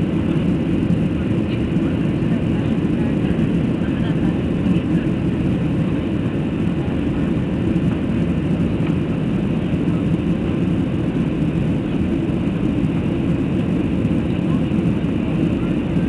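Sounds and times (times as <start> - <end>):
aeroplane taking off: 0.0 - 16.0.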